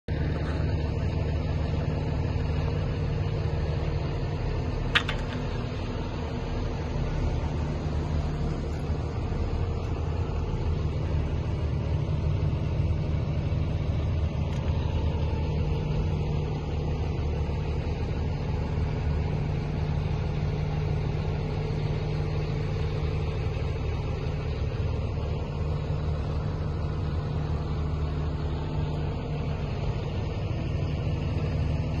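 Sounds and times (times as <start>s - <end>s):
engine humming steadily: 0.0s - 32.0s.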